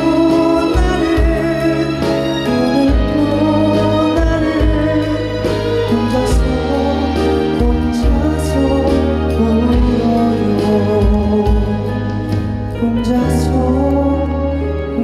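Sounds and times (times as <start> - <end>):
bass: 0.0 - 15.0
keyboard chords: 0.0 - 15.0
person singing melody: 0.0 - 15.0.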